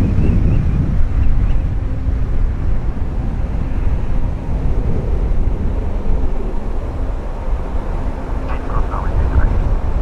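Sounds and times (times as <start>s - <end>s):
jet engines rumbling: 0.0s - 10.0s
wind buffeting microphone: 0.0s - 10.0s.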